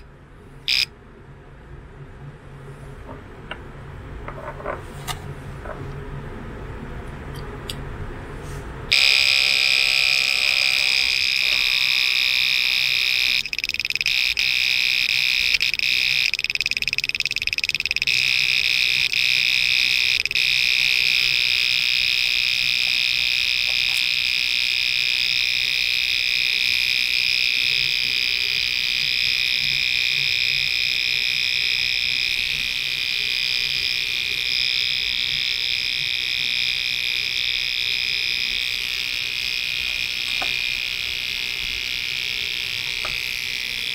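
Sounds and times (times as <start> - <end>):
high-pitched harsh buzzer: 0.7 - 0.9, 8.9 - 43.9.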